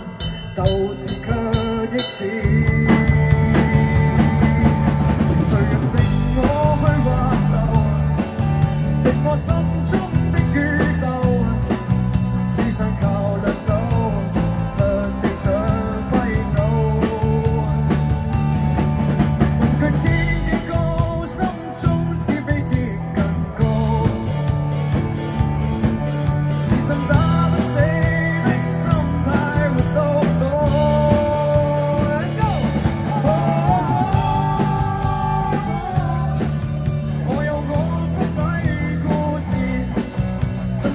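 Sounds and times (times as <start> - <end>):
bass guitar: 0.0 - 40.9
drum kit with cymbals: 0.0 - 40.9
electric and acoustic guitars: 0.0 - 40.9.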